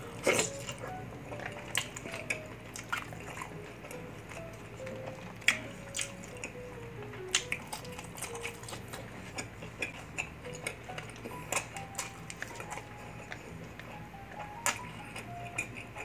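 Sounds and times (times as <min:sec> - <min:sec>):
person chewing food: 0:00.0 - 0:16.0
plucky background music: 0:00.0 - 0:16.0.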